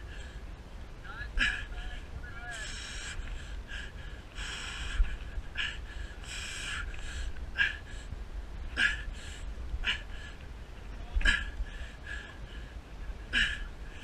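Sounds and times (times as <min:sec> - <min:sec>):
hard laboured breathing: 0:00.0 - 0:00.5, 0:01.4 - 0:14.0.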